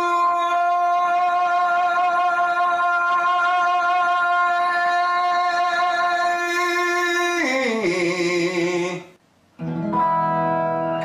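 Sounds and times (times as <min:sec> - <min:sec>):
man singing vocal exercise: 0:00.0 - 0:09.2.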